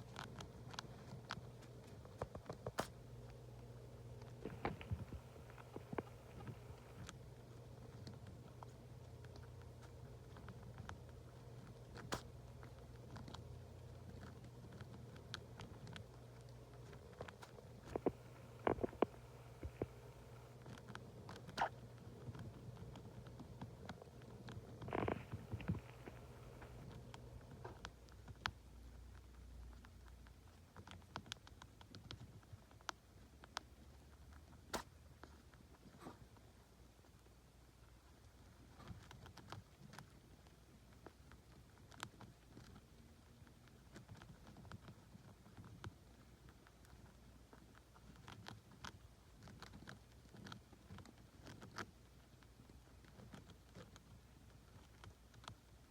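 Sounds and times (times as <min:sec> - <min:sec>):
rats clicking and puffing: 0:00.0 - 0:55.9.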